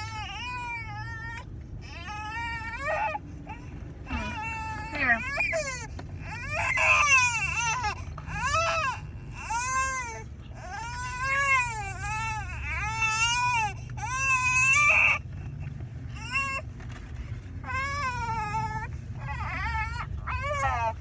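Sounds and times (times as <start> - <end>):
infant crying: 0.0 - 15.3, 17.6 - 21.0.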